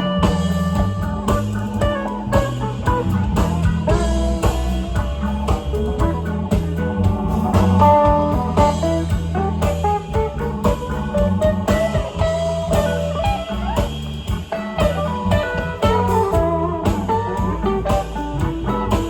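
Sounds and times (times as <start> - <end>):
bass guitar: 0.0 - 19.0
drum kit groove: 0.0 - 19.0
electric guitar lead line: 0.0 - 19.0.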